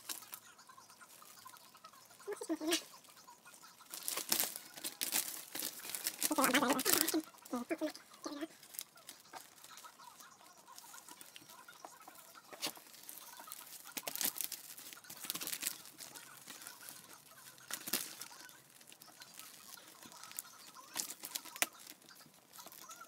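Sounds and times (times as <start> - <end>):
plastic film crinkling: 0.0 - 23.0.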